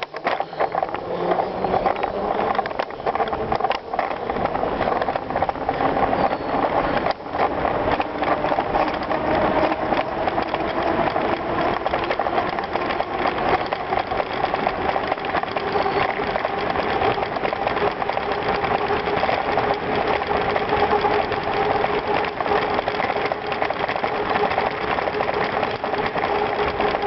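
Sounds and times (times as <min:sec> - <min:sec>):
bike chain and frame rattling: 0:00.0 - 0:27.0
tyres crunching on gravel: 0:00.0 - 0:27.0.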